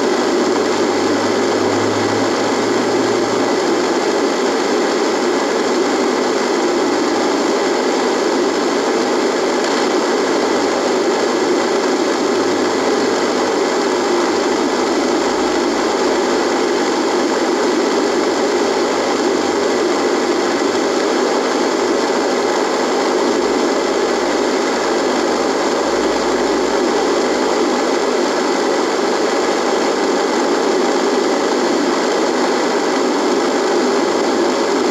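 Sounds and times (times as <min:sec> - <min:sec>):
radio static: 0:00.0 - 0:07.6, 0:08.3 - 0:29.4.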